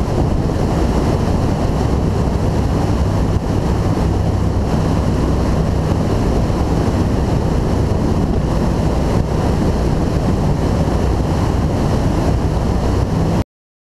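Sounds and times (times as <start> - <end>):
boat engine drone: 0.0 - 13.4
water rushing past hull: 0.0 - 13.4
wind buffeting microphone: 0.0 - 13.4.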